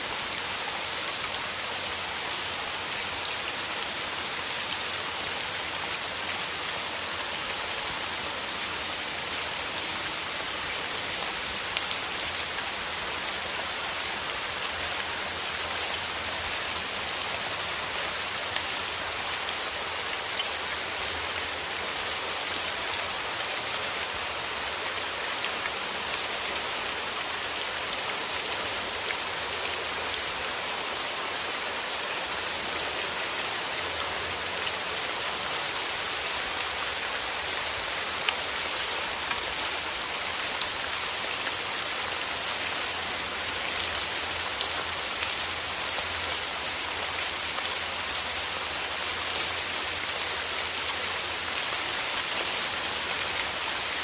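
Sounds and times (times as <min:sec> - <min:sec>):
light ticks of raindrops: 0:00.0 - 0:54.0
steady rain falling: 0:00.0 - 0:54.0.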